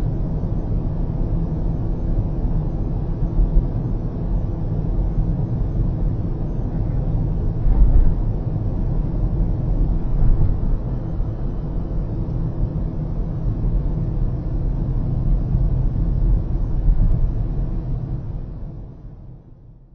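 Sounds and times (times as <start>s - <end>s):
road and tyre noise: 0.0s - 19.8s.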